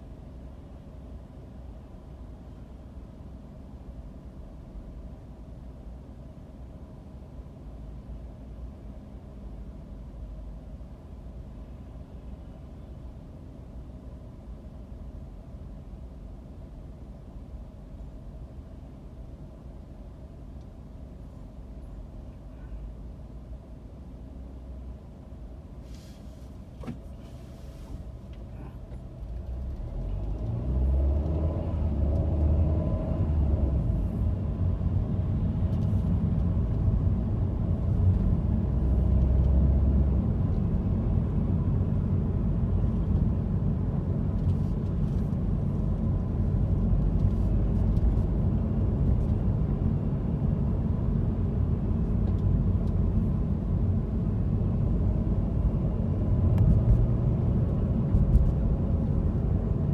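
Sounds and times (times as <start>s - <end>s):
car engine rumble from inside: 0.0s - 59.9s.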